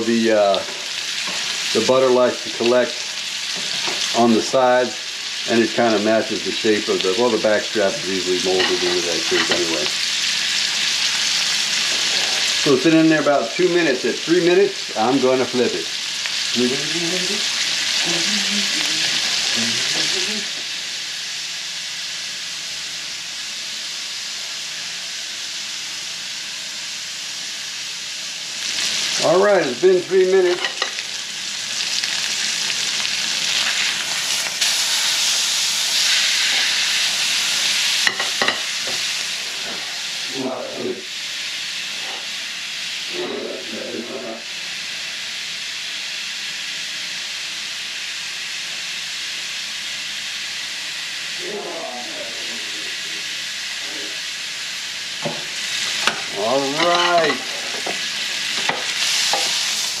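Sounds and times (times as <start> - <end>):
meat sizzling in a pan: 0.0 - 60.0.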